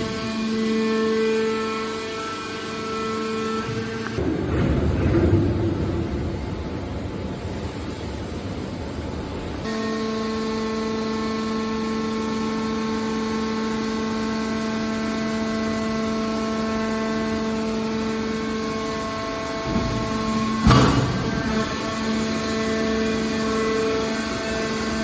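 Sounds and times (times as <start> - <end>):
hydraulic pump hum: 0.0 - 25.0.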